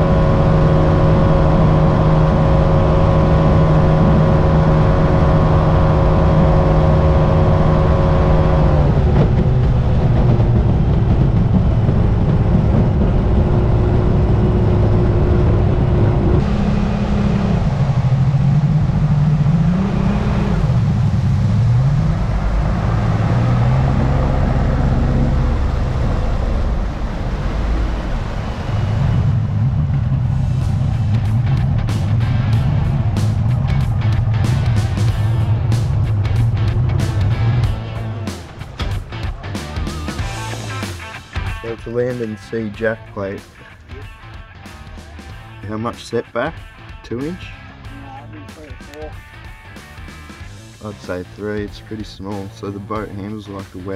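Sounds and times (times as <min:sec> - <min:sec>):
water rushing: 0:00.0 - 0:46.5
outboard motor running: 0:00.0 - 0:53.9
wind: 0:00.0 - 0:53.9.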